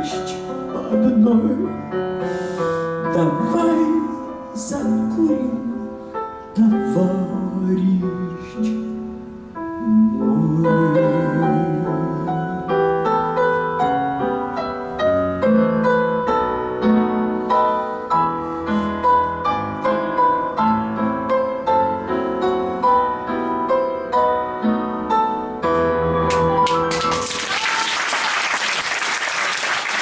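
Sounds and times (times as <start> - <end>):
slow piano playing: 0.0 - 27.2.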